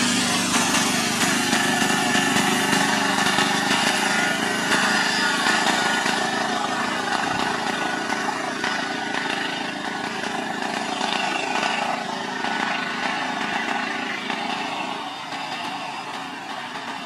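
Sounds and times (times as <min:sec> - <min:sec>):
small engines idling: 0:00.0 - 0:17.0.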